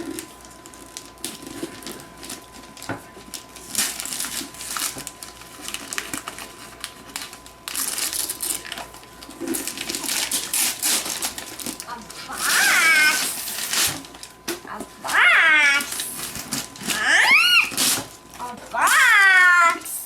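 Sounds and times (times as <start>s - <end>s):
packaging crinkling and ripping: 0.0s - 19.9s.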